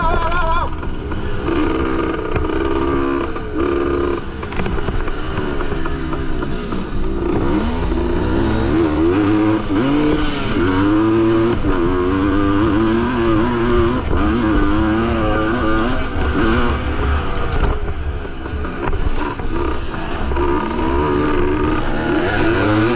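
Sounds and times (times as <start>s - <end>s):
two-stroke engine revving: 0.0s - 22.9s.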